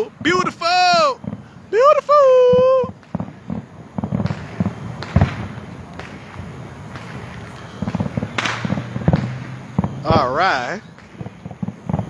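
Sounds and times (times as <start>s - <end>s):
fireworks bangs and pops: 0.0s - 12.0s
fireworks crackling burst: 0.0s - 12.0s.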